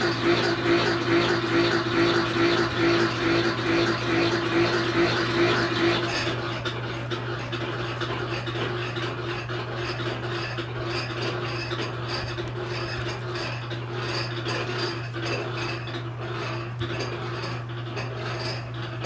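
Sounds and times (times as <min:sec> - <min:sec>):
plane scraping wax cappings: 0:00.0 - 0:19.0.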